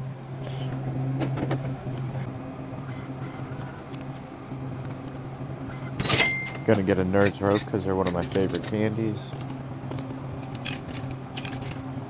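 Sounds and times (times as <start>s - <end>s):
vending machine humming: 0.0s - 12.0s.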